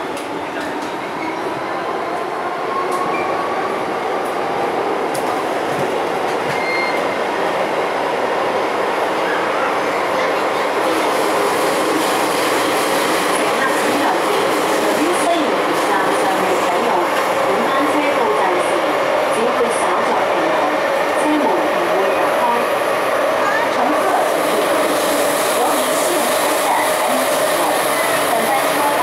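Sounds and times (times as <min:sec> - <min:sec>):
rumble of wheels on rail: 0:00.0 - 0:29.0.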